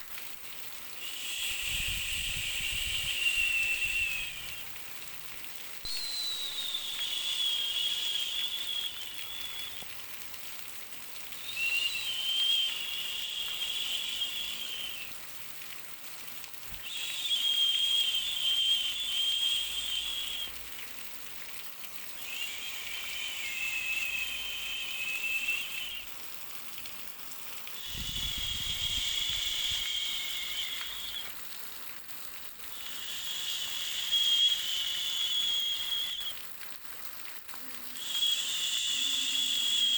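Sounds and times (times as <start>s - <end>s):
faint constant hiss: 0.0s - 39.9s
high whistling hiss: 0.8s - 10.4s, 11.2s - 15.4s, 16.7s - 21.0s, 22.0s - 27.1s, 27.7s - 31.5s, 32.6s - 36.5s, 37.9s - 39.9s.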